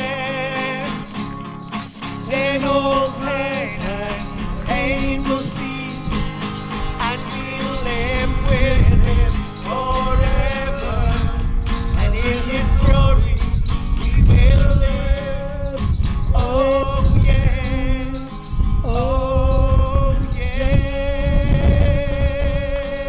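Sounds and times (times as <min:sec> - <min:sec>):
instrumental backing: 0:00.0 - 0:23.0
person singing: 0:00.0 - 0:23.0
wind rumbling on microphone: 0:02.4 - 0:23.0.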